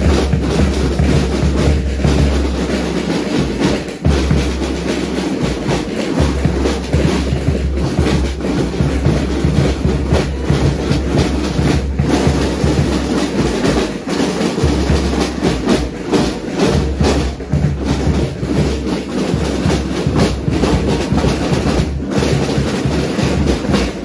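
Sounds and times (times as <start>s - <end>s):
bass drum: 0.0s - 24.0s
snare drums playing: 0.0s - 24.0s.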